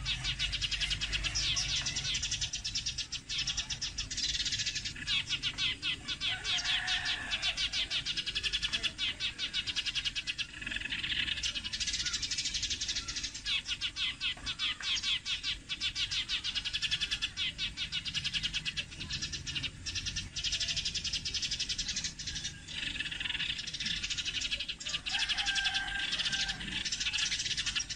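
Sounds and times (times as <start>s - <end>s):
sparrows chirping: 0.0s - 27.9s.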